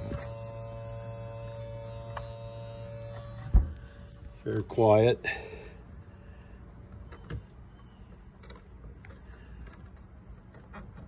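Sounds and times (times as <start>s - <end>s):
pump humming faintly: 0.0s - 11.0s.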